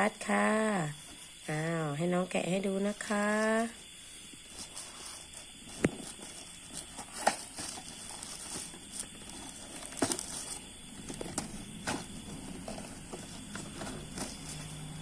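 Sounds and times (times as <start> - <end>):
cardboard box and packaging handled: 2.6 - 15.0.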